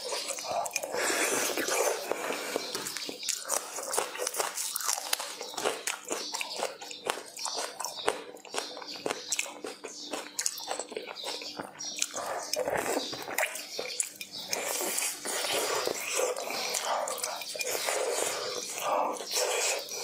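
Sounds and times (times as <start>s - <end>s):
chewing food: 0.0s - 20.0s.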